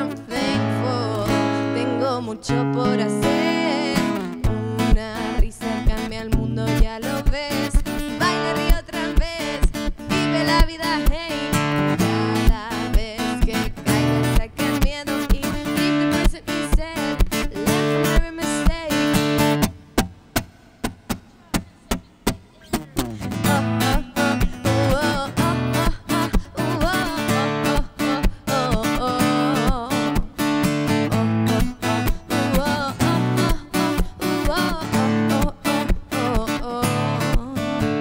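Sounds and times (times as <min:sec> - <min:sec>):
person singing wordlessly: 0:00.0 - 0:19.3, 0:22.8 - 0:38.0
acoustic guitar strumming: 0:00.0 - 0:38.0.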